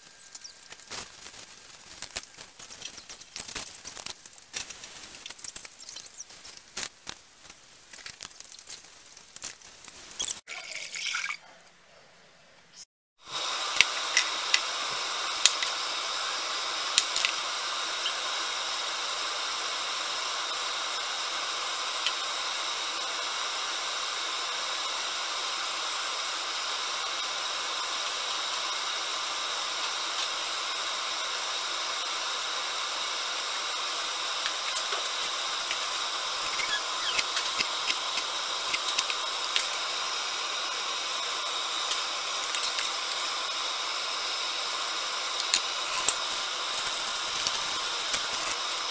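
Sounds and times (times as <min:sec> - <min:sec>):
kitchen background hiss: 0:00.0 - 0:48.9.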